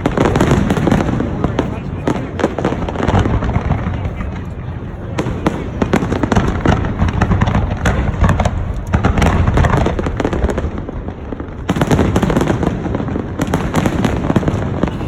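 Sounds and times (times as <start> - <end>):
fireworks bangs and crackles: 0.0 - 15.0
low rumble of booms: 0.0 - 15.0.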